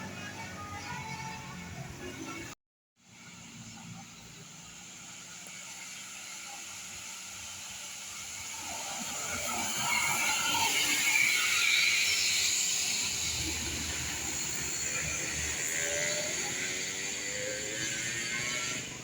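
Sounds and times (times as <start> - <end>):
bus driving past: 0.0 - 19.0.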